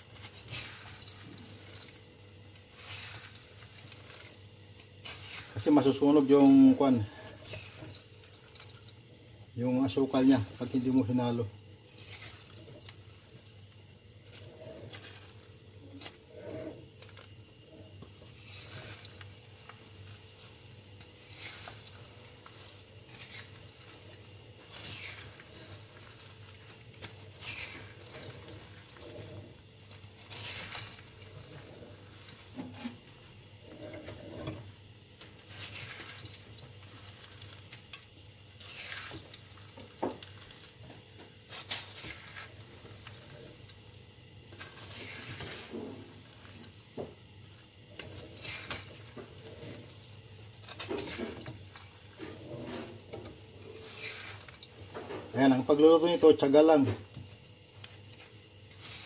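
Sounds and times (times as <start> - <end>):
nuts scraping in metal pan: 0.0 - 8.9, 9.6 - 43.8, 44.5 - 47.2, 47.8 - 56.9
steady low hum: 0.0 - 59.0.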